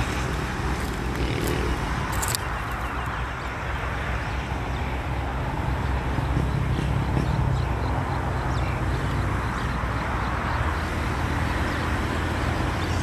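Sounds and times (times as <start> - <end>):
engine running with rhythmic beat: 0.0 - 13.0.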